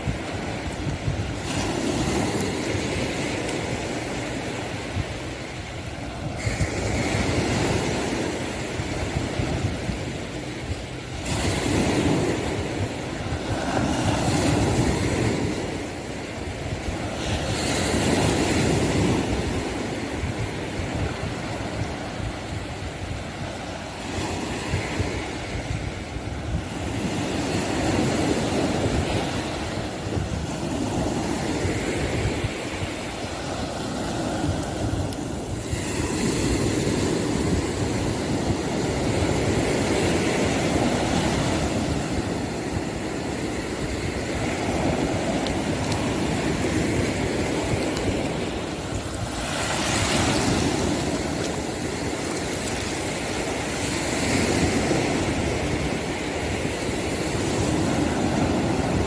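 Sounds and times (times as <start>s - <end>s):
ocean waves breaking on a beach: 0.0s - 59.0s
wind rumble on microphone: 0.0s - 59.0s.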